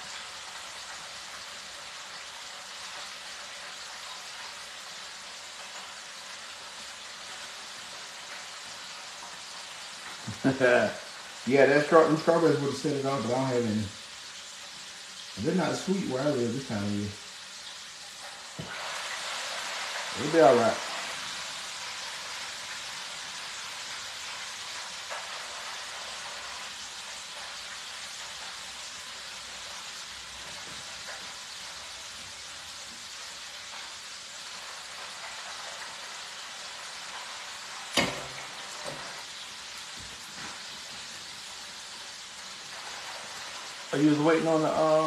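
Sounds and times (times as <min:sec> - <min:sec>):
hot oil sizzling in fryer: 0:00.0 - 0:45.0.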